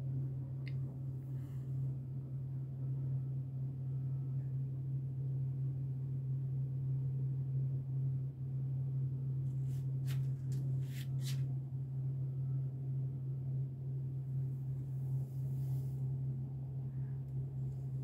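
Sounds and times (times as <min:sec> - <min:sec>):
refrigerator humming: 0:00.0 - 0:18.0.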